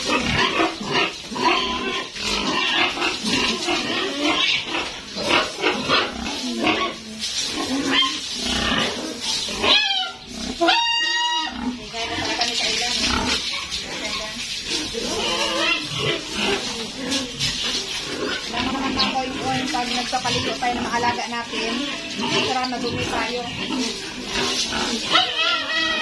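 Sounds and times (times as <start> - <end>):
pig squealing: 0.0 - 26.0
pigs grunting: 0.0 - 26.0.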